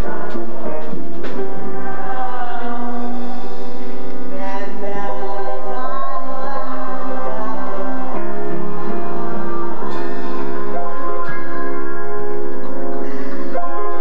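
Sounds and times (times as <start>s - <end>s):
young man singing lead: 0.0s - 11.9s
ensemble singing: 0.0s - 14.0s
musical accompaniment: 0.0s - 14.0s.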